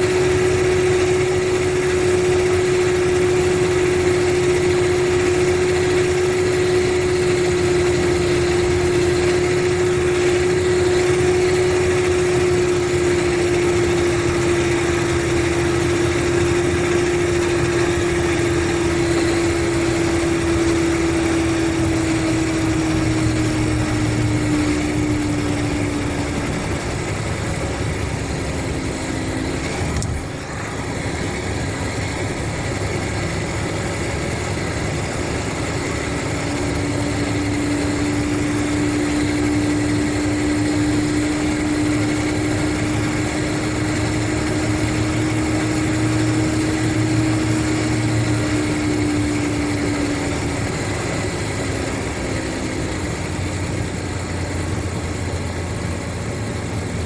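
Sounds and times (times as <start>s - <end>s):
bus engine running: 0.0s - 57.0s
steady whine: 0.0s - 57.0s.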